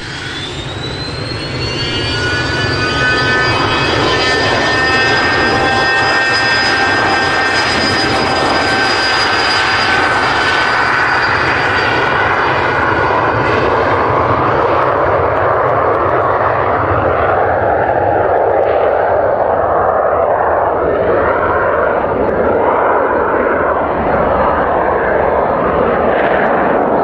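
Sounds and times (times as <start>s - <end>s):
jet engine rushing roar: 0.0s - 27.0s
jet engine whine: 0.0s - 27.0s.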